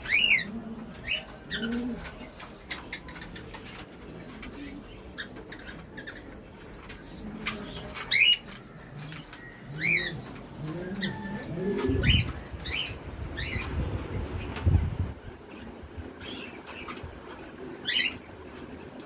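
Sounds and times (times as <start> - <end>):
birds chirping: 0.0 - 19.0
pigeons cooing: 0.0 - 19.0.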